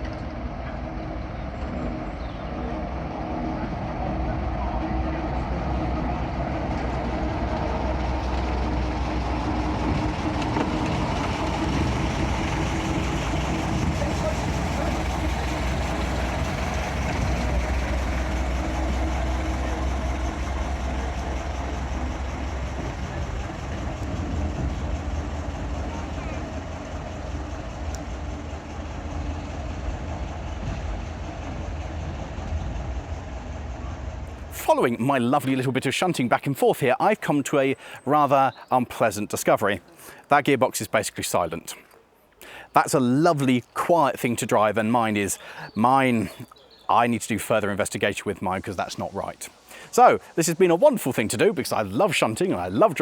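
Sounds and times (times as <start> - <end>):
diesel locomotive running: 0.0 - 53.0.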